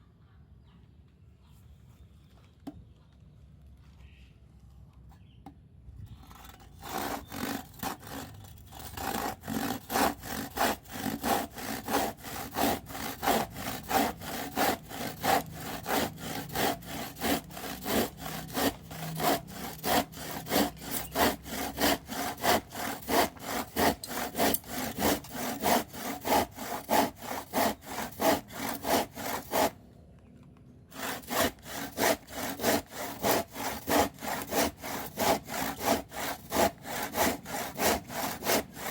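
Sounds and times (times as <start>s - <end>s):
hand saw cutting wood: 6.2s - 29.8s, 30.9s - 38.9s.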